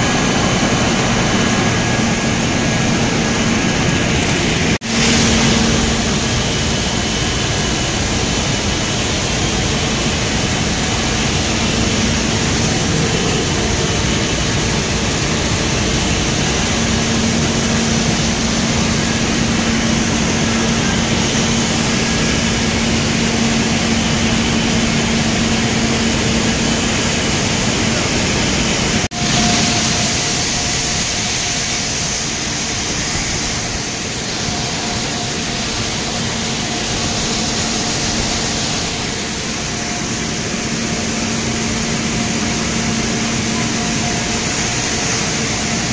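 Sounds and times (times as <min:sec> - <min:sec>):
higher machine hum: 0:00.0 - 0:45.9
machinery droning: 0:00.0 - 0:45.9.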